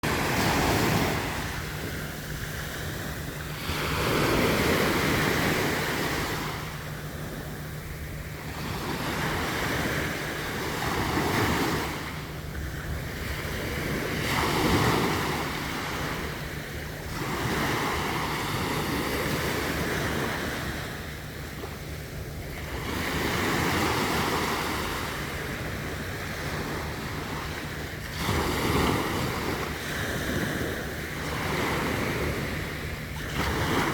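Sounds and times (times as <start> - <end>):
sea waves breaking on beach: 0.0 - 33.9.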